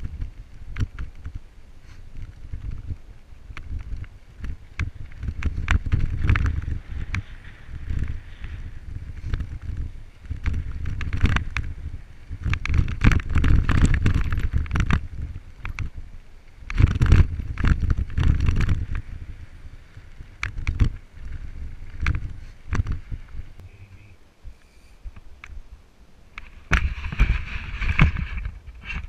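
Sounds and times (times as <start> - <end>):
tyres rattling over rocky trail: 0.0 - 23.9, 26.3 - 29.0
wind buffeting microphone: 0.0 - 29.0.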